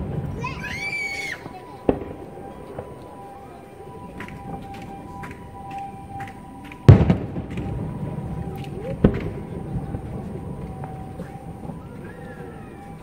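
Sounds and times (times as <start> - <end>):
fireworks bangs with rolling echo: 0.0 - 13.0.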